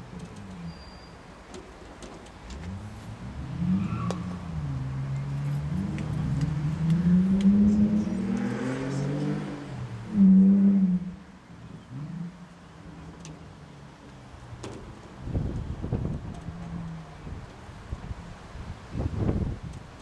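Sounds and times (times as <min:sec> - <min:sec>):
car engine accelerating: 0:02.5 - 0:19.8.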